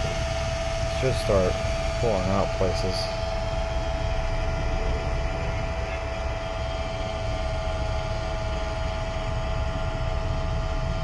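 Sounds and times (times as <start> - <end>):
air pump humming: 0.0 - 11.0.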